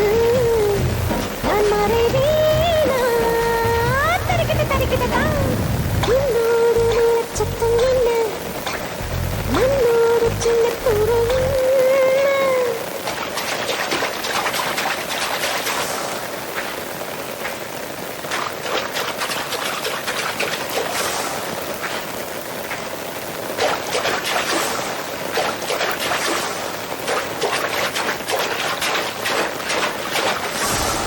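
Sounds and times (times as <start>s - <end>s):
rain falling: 0.0s - 31.0s
water dripping and splashing: 0.0s - 31.0s.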